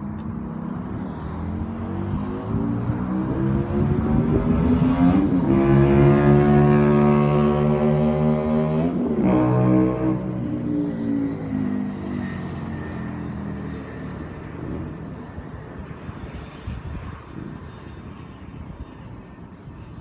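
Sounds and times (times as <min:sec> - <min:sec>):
motorcycle engine moving away: 0:00.9 - 0:17.1.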